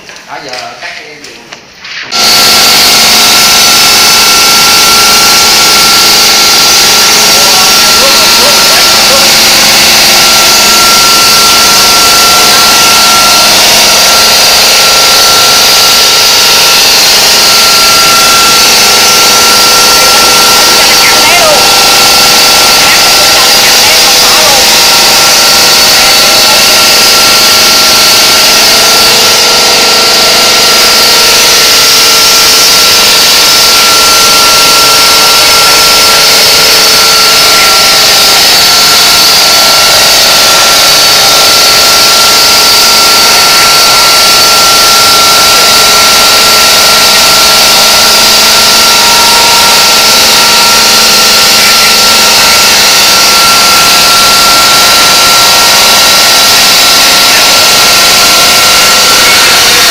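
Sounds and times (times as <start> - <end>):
high tone: 1.8 - 59.9
saw cutting stone: 2.0 - 59.9.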